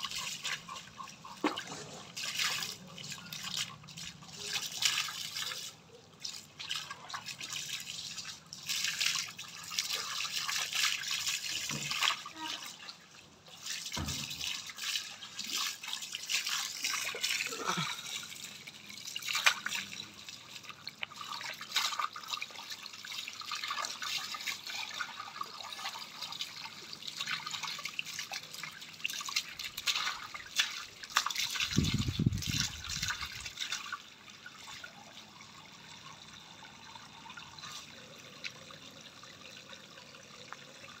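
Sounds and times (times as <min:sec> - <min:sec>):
hose water splashing: 0:00.0 - 0:38.6.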